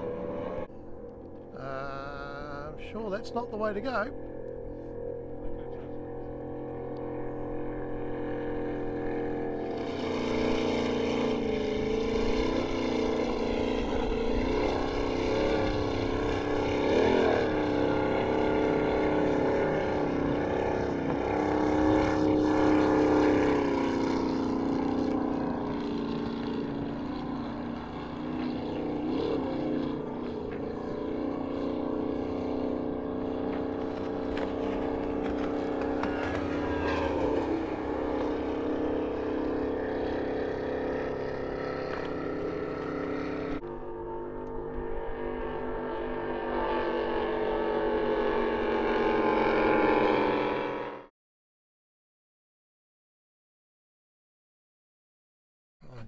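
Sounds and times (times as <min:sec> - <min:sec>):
powerboat engines droning: 0:00.0 - 0:51.0.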